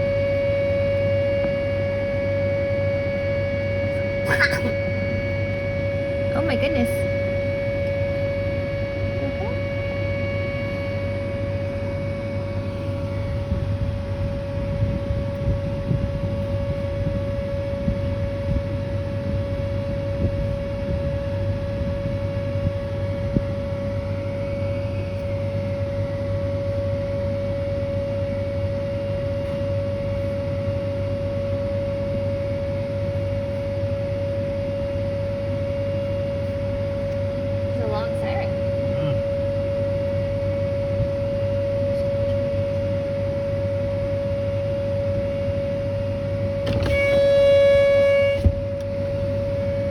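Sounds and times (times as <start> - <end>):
outdoor warning siren steady tone: 0.0 - 49.9.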